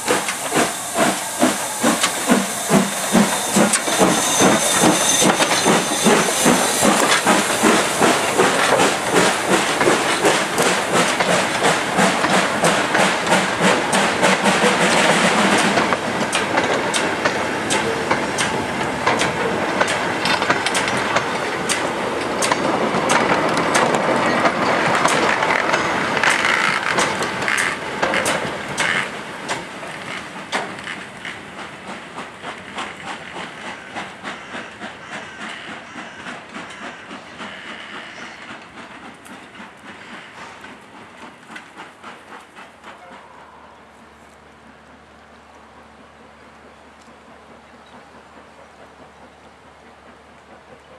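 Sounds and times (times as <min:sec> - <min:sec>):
steam hissing: 0:00.0 - 0:43.6
steam locomotive exhaust beat: 0:00.0 - 0:50.9
wagons clicking over rail joints: 0:00.0 - 0:50.9.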